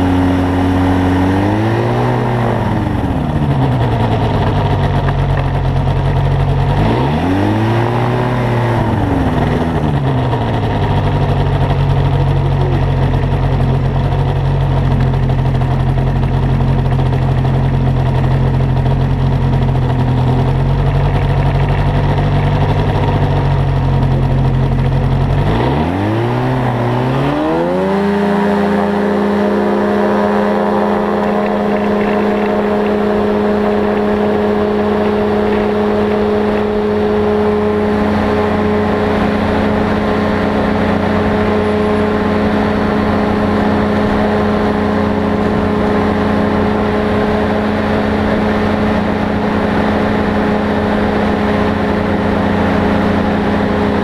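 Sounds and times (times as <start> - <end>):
light aircraft piston engine: 0.0 - 54.0.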